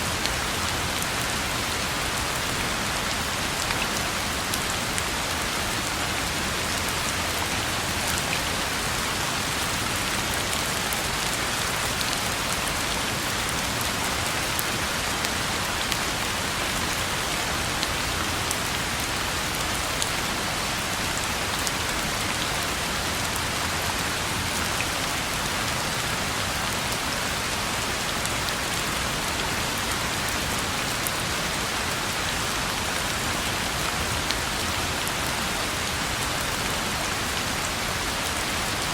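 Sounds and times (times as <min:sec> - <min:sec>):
steady rain on a road: 0:00.0 - 0:38.9.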